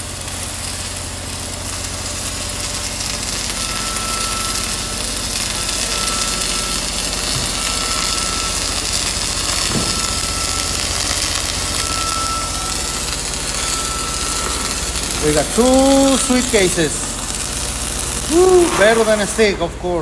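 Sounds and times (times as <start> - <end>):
high reversing alarm beeps: 2.6 - 19.7.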